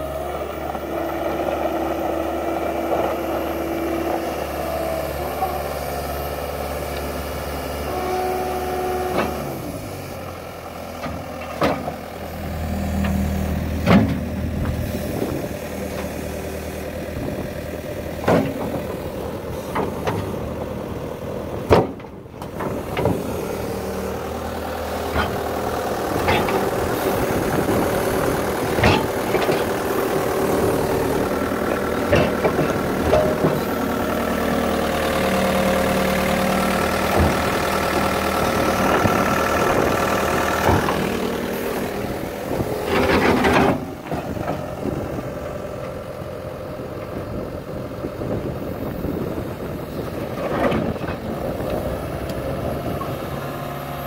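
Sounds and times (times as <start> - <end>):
loader diesel engine running: 0.0 - 54.0.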